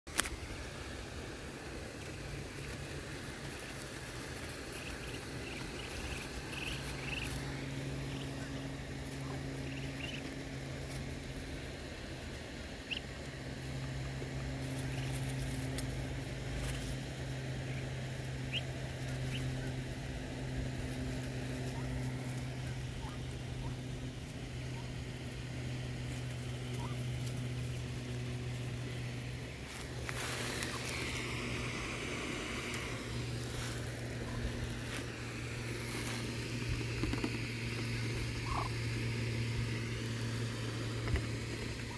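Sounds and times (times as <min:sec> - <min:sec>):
ducklings pecking at feed: 0:00.1 - 0:41.9
steady low hum: 0:00.1 - 0:41.9
ducklings peeping: 0:00.3 - 0:41.9.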